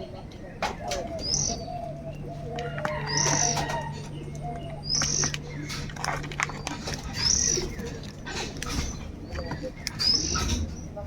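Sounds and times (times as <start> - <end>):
crows calling: 0.0 - 10.6.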